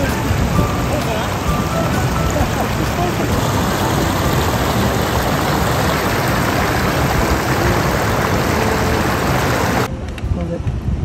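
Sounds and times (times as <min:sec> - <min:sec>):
stream rushing over stones: 0:00.0 - 0:09.9.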